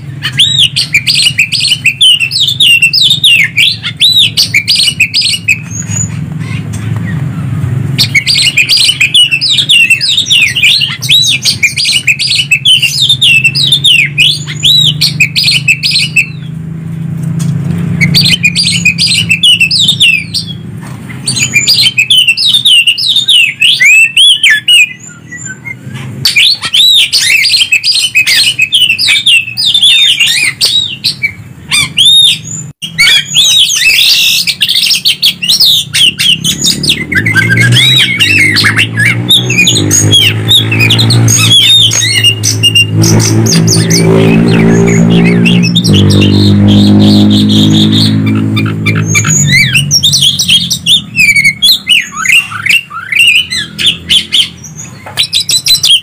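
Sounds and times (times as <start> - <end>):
birds whistling and chirping: 0.0 - 56.0.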